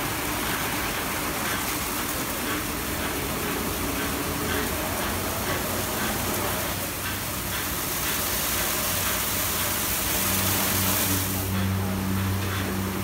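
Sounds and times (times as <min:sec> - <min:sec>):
water spraying: 0:00.0 - 0:13.0.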